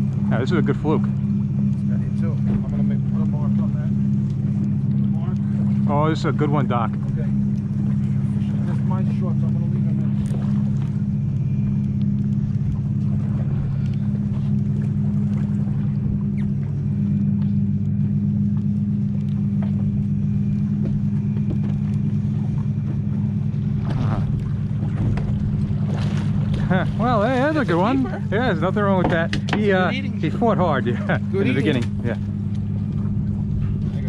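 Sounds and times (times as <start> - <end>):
boat engine idling: 0.0 - 34.0.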